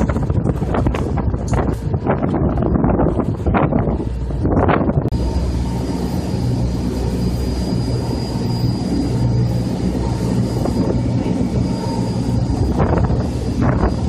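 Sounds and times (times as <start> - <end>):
motorboat engine drone: 0.0 - 14.0
water rushing from wake: 0.0 - 14.0.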